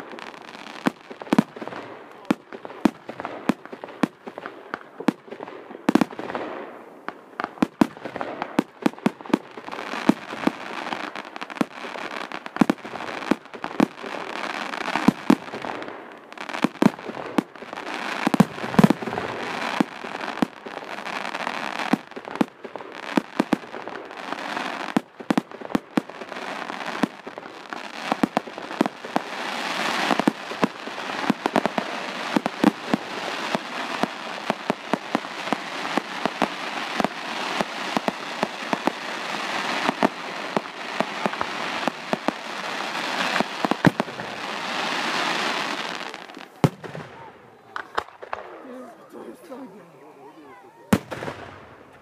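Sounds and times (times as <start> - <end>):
constant hiss: 0.0 - 52.0
fireworks bangs: 0.0 - 52.0.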